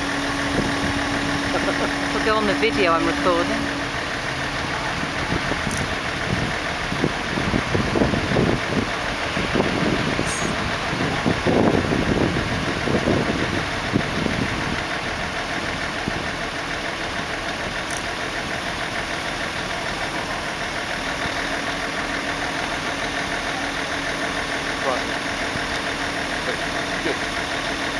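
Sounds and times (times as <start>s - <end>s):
crane diesel engine running: 0.0s - 27.9s.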